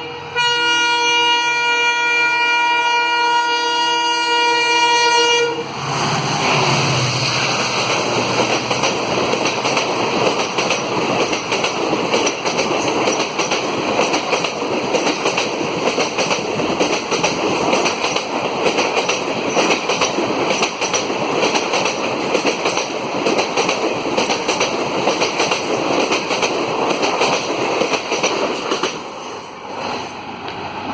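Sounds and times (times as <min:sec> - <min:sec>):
train coaches rushing past: 0:05.0 - 0:30.9.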